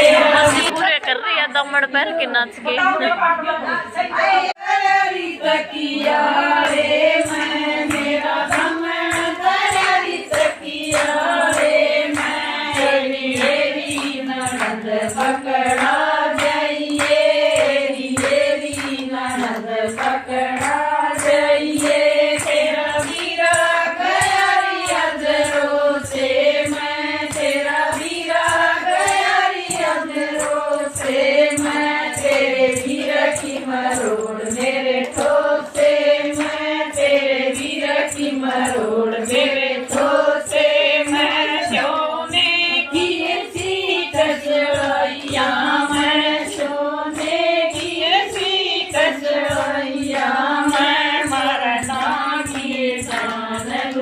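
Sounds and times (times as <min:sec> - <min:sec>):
women singing in unison: 0:00.0 - 0:01.3, 0:02.2 - 0:54.0
hand clapping: 0:00.0 - 0:01.9, 0:05.7 - 0:54.0.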